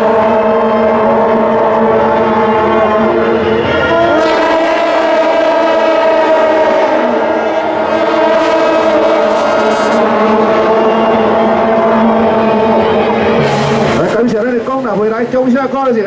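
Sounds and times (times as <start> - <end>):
brass horns droning together: 0.0 - 15.8.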